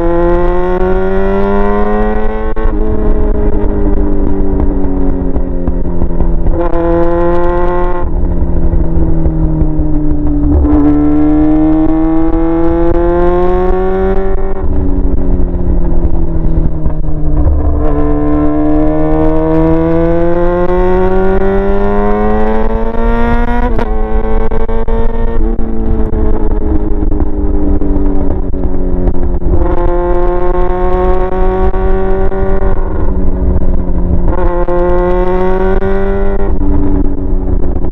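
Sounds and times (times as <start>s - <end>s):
loud motorcycle engine accelerating: 0.0s - 37.9s.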